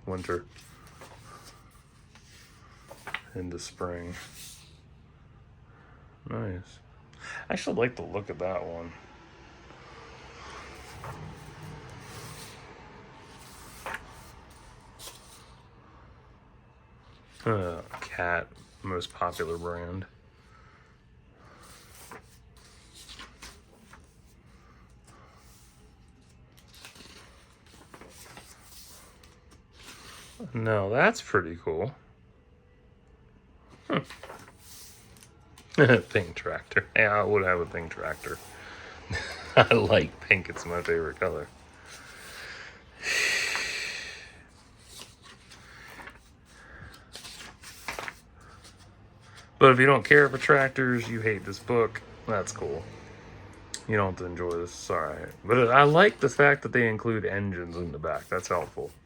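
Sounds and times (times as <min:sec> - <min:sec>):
book pages turning: 0:00.0 - 0:04.8, 0:10.3 - 0:15.6, 0:17.0 - 0:30.7, 0:33.7 - 0:59.0
faint paper rustling: 0:00.0 - 0:04.9, 0:10.4 - 0:15.8, 0:16.9 - 0:30.7, 0:33.6 - 0:59.0.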